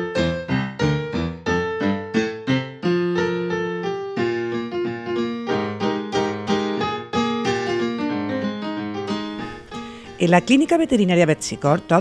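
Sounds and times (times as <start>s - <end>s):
piano playing a tune: 0.0s - 12.0s.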